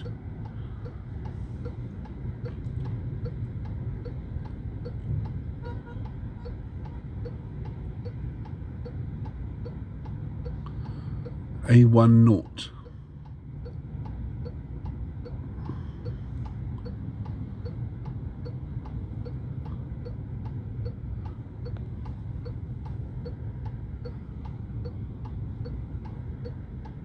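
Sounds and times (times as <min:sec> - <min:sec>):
car rumbling on road: 0:00.0 - 0:27.0
turn signal ticking: 0:00.0 - 0:27.0.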